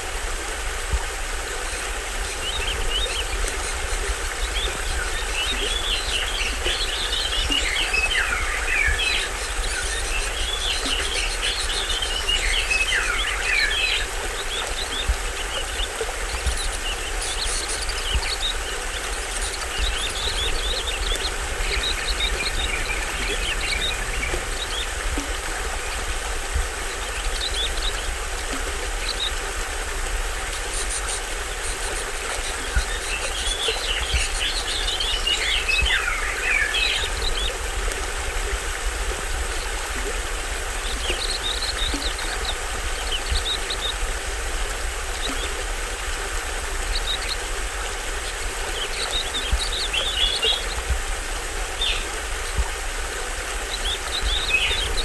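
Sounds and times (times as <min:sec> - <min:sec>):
small waterfall splashing: 0:00.0 - 0:55.0
birds chirping: 0:01.4 - 0:55.0.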